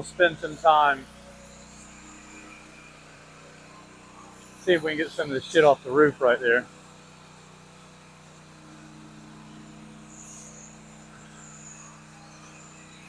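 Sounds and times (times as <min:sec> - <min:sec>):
faint motor hum: 0:00.0 - 0:13.0.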